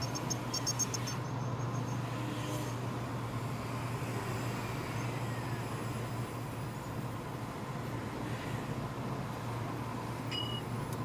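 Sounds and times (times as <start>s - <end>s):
car engine and road noise: 0.0s - 11.0s
constant low hum: 0.0s - 11.0s.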